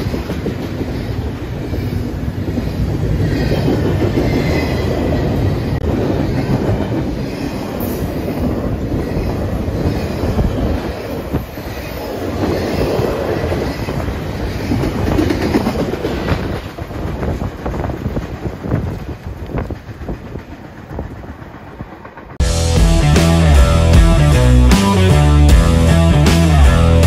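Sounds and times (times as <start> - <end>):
freight train wheels clattering: 0.0 - 22.4.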